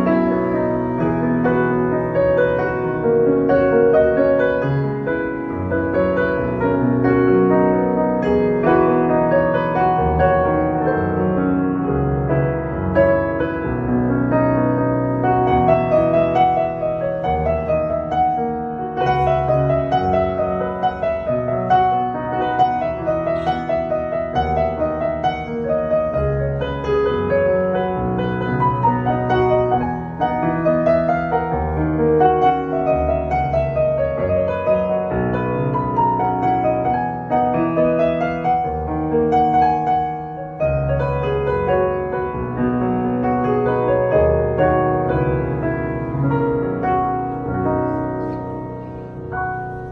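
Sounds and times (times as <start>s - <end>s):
digital piano melody: 0.0s - 49.9s.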